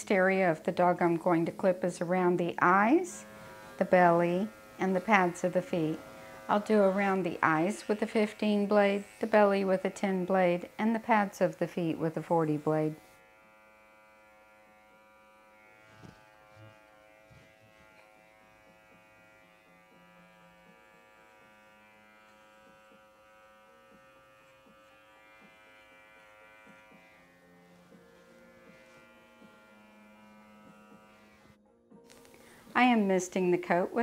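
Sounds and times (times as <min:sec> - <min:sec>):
electric clippers humming: 0:00.0 - 0:34.0.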